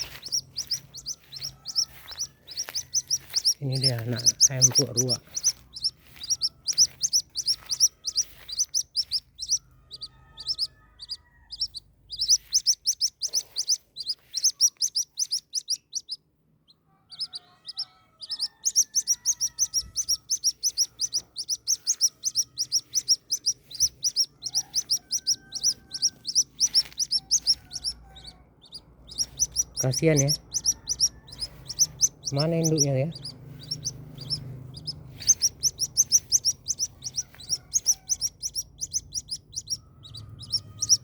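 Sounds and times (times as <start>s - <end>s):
chick peeping: 0.0s - 41.0s.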